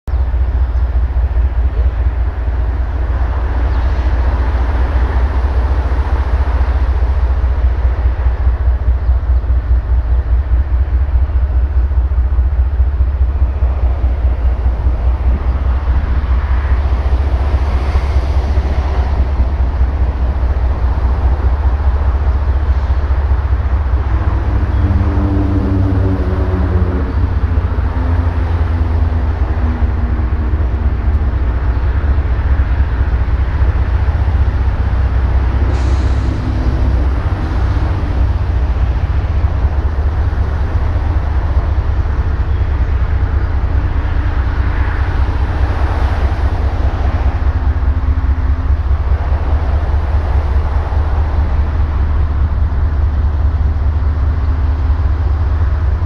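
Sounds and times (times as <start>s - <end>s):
diesel locomotive engine rumbling: 0.0s - 56.0s.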